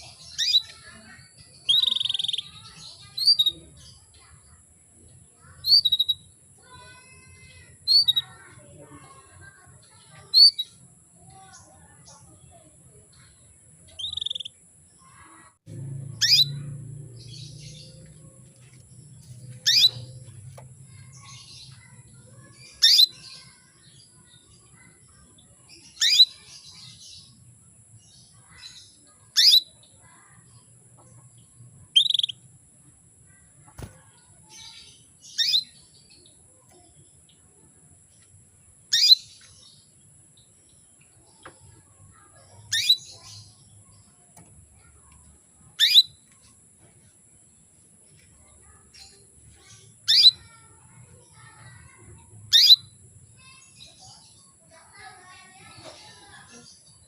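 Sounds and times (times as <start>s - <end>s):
canary chirps: 0.0s - 57.0s.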